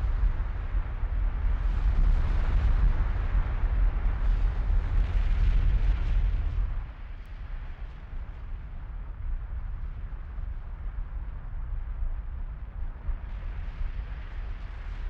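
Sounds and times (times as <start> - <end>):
low rumble with rushing hiss: 0.0 - 15.0.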